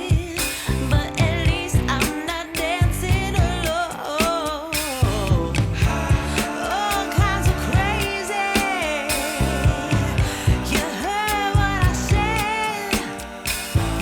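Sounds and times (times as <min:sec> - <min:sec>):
pop soul song with beat: 0:00.0 - 0:14.0.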